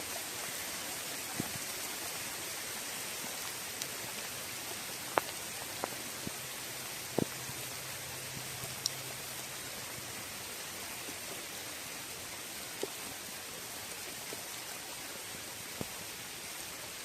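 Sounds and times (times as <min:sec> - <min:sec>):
rain falling on a lake: 0:00.0 - 0:17.0.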